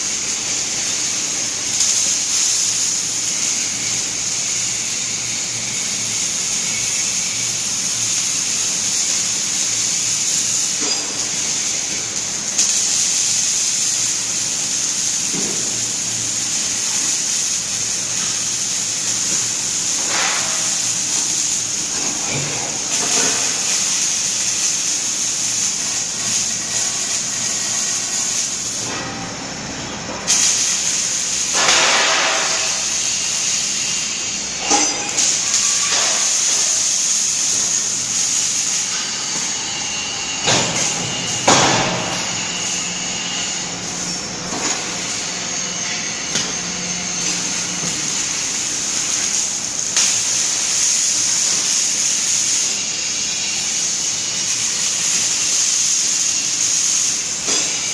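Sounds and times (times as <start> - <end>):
torch hissing: 0.0 - 29.0, 30.1 - 57.9.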